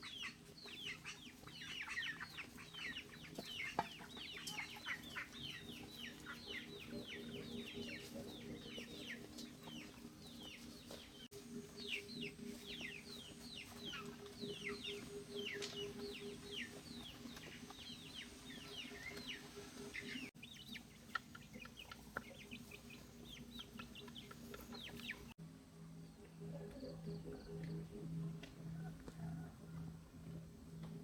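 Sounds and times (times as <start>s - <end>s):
chicks peeping: 0.0s - 25.4s.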